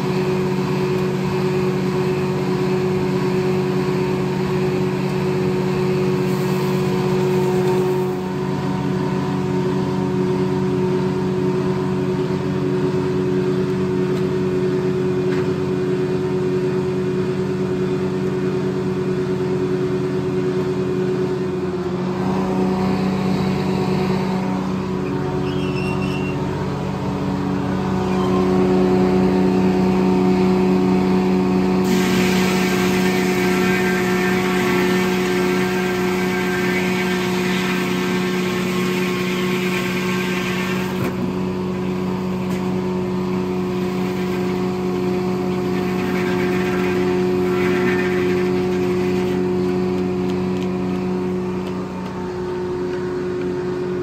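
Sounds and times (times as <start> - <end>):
sawmill engine drone: 0.0 - 54.0.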